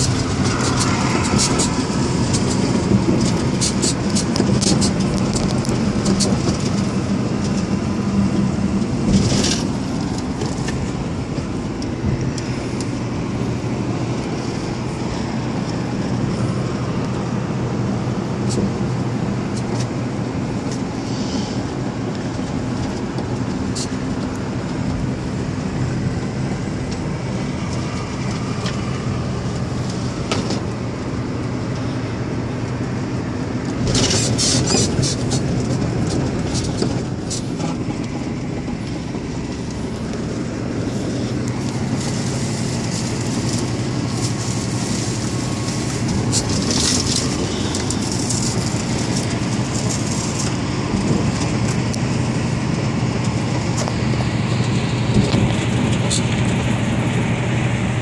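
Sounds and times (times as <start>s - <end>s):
diesel truck engine humming: 0.0s - 58.0s.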